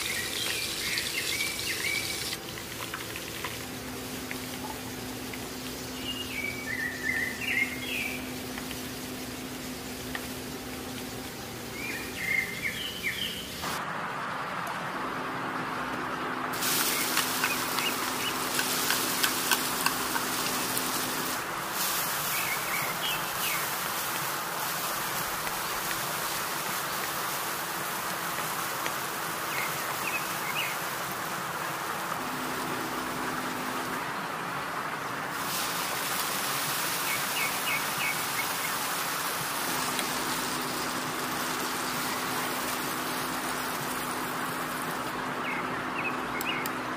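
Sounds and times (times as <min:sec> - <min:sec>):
garlic sizzling in hot oil: 0:00.0 - 0:13.8, 0:16.6 - 0:34.0, 0:35.3 - 0:45.2.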